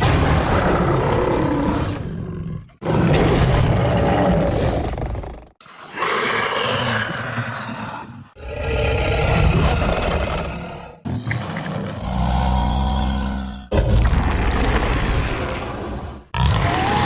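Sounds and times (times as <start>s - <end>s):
monster roar: 0.2s - 17.0s.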